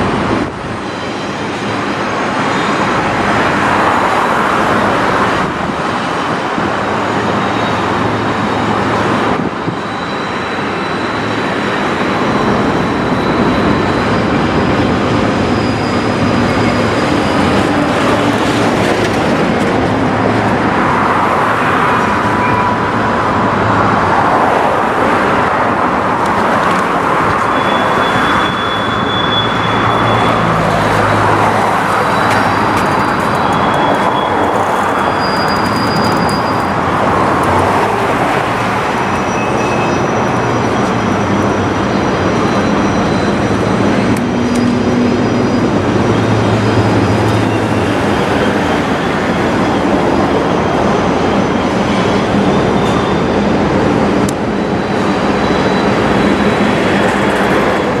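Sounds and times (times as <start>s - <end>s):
train wheels rumbling on rail: 0.0s - 58.0s
high-pitched wheel squeals: 0.7s - 58.0s.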